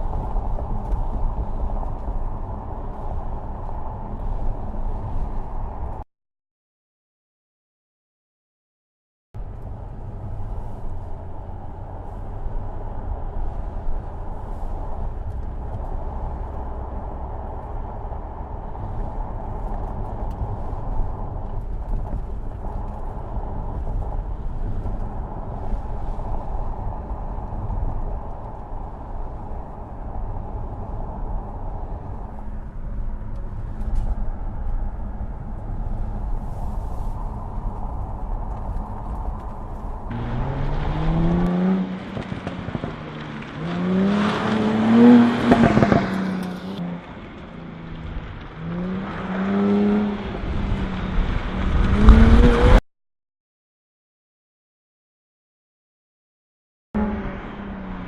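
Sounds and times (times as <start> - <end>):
car engine and tyres rumbling: 0.0 - 6.1, 9.4 - 52.8, 57.0 - 58.0.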